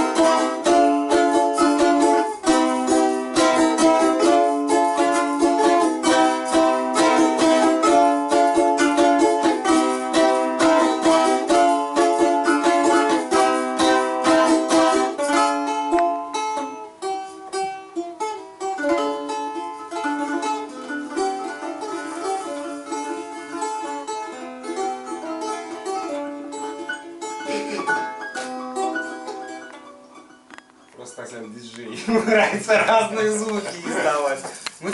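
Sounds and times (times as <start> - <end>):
balalaika strumming and plucking: 0.0 - 34.9.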